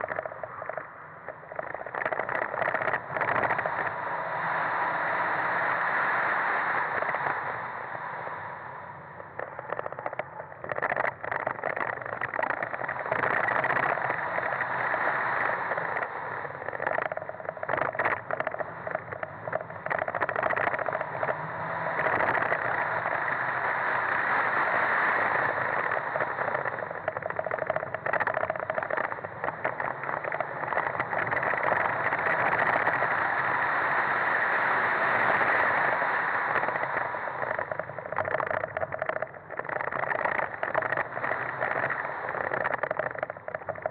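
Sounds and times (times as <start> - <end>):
heavy wind noise: 0.0 - 43.9
road noise: 0.0 - 43.9
car engine under load: 6.6 - 43.9.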